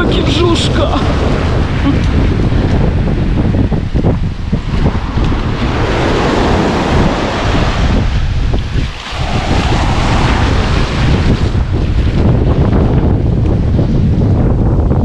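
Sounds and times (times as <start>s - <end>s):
surf washing over sand: 0.0s - 14.3s
wind rumble on microphone: 0.0s - 15.0s.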